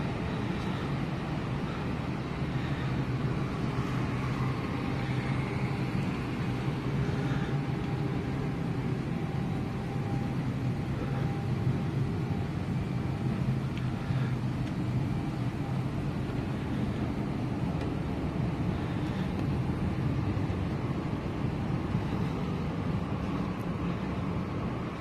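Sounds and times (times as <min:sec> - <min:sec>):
cabin ventilation air rushing: 0:00.0 - 0:25.0
constant low hum: 0:00.0 - 0:25.0.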